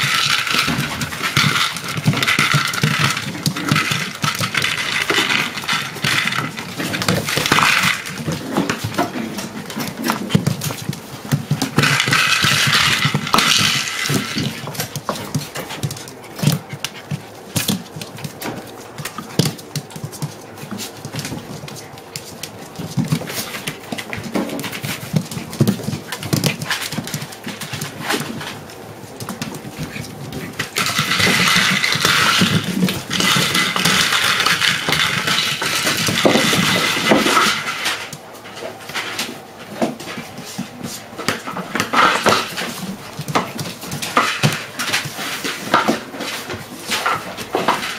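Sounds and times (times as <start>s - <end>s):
paws and toys clicking on floor: 0.0s - 47.9s
puppies playing: 0.0s - 47.9s.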